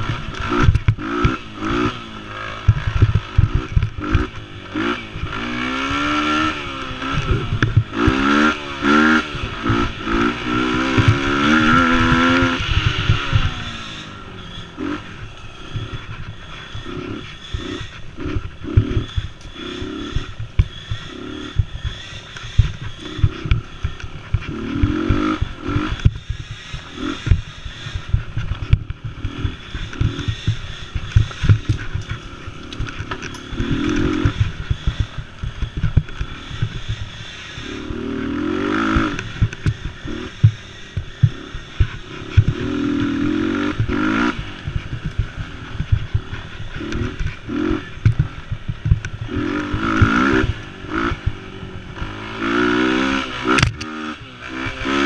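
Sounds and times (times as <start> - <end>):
small engine revving: 0.0 - 55.0.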